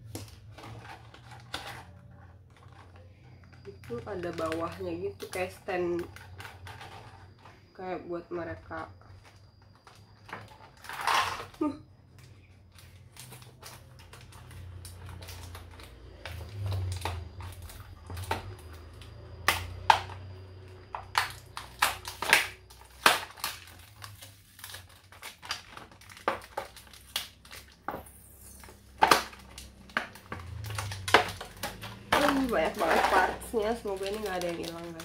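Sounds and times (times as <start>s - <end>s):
plastic packaging clicking and crackling: 0.0s - 7.6s, 9.0s - 35.0s.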